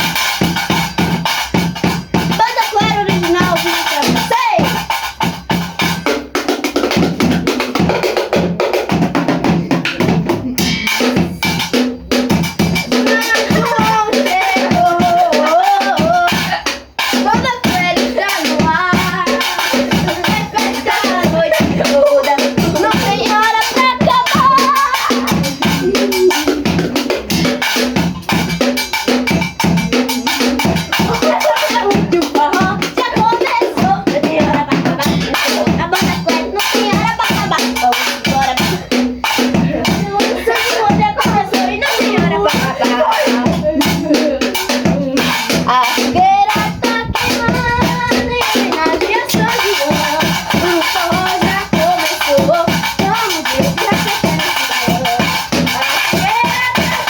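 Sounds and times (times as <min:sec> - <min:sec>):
live band melody: 0:00.0 - 0:57.0
steady drum beat: 0:00.0 - 0:57.0.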